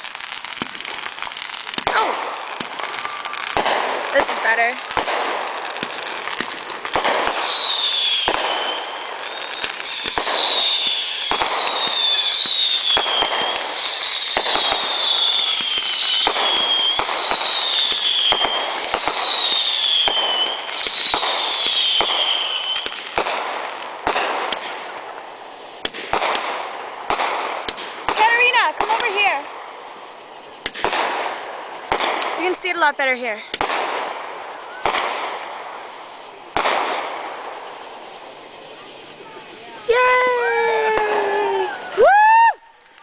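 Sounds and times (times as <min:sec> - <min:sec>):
fireworks bangs and crackling: 0:00.0 - 0:43.0
whistling firework shells: 0:00.0 - 0:43.0.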